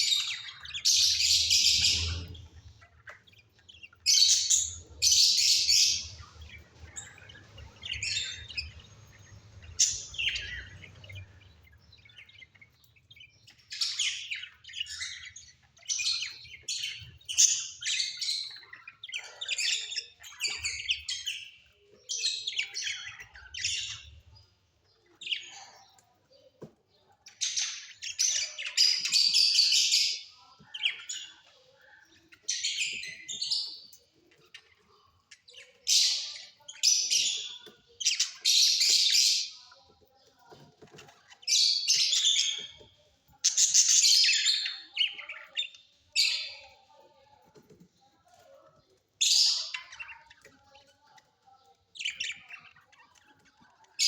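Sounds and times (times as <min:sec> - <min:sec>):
parrots chirping and squawking: 0:00.0 - 0:54.0.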